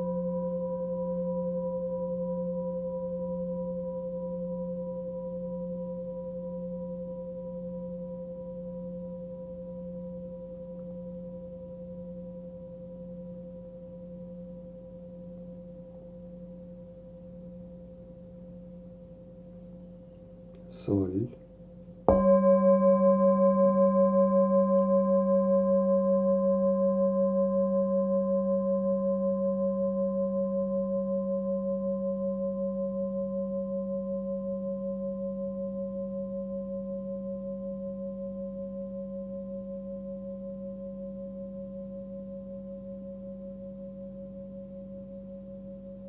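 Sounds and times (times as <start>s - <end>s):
singing bowl ringing: 0.0s - 20.5s, 21.5s - 46.0s.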